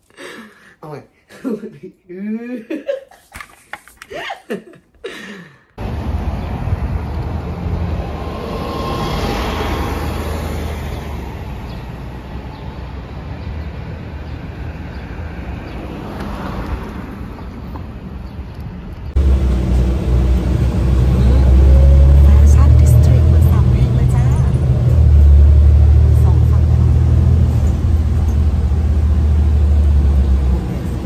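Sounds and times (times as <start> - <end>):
passing vehicles: 5.8 - 31.0.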